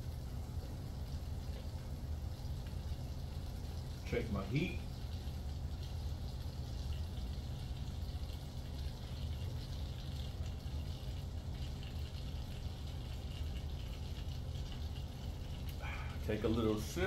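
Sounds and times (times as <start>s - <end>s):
oil sizzling in a pot: 0.0s - 17.0s
steady low hum: 0.0s - 17.0s.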